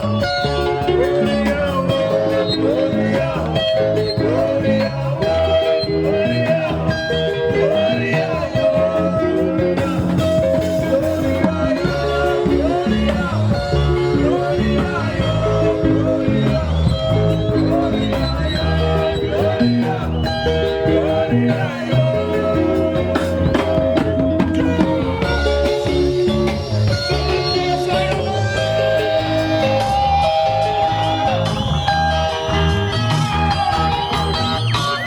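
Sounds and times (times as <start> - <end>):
electric guitar lines: 0.0 - 35.0
live band playing: 0.0 - 35.0.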